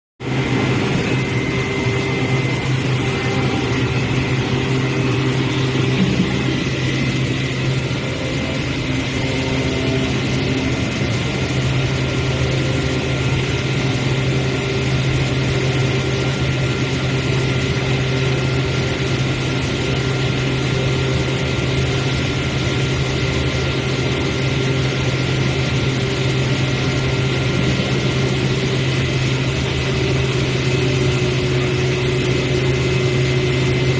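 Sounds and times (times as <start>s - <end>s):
cutting machine hum: 0.2s - 33.9s
thin constant whine: 0.2s - 33.9s.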